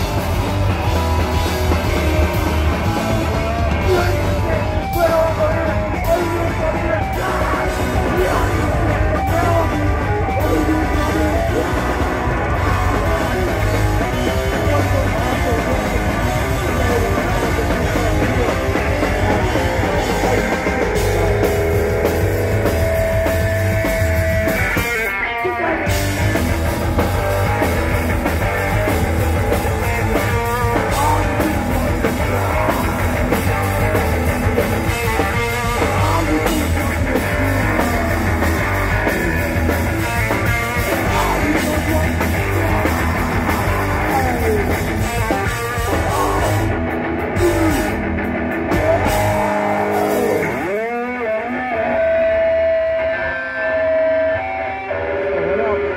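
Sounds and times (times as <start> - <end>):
hardcore punk band playing live: 0.0 - 55.9.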